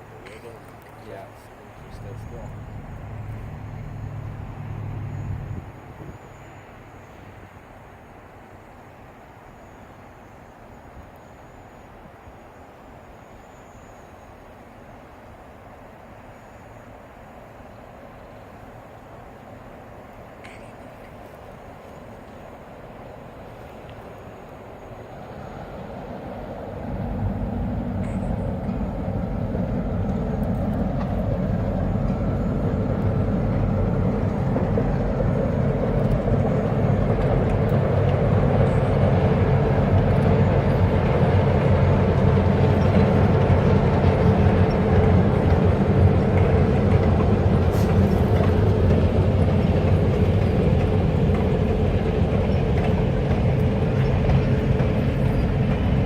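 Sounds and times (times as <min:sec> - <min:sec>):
diesel locomotive engine drone: 0:00.0 - 0:56.0
train rumble: 0:00.0 - 0:56.0.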